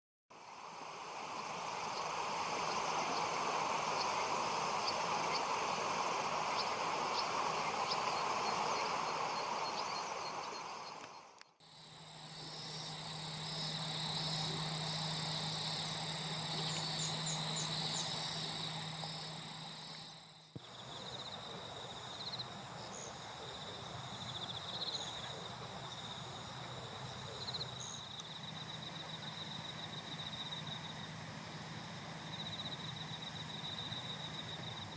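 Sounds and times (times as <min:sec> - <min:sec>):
insects trilling: 0:00.4 - 0:34.9
low steady hum: 0:00.4 - 0:34.9.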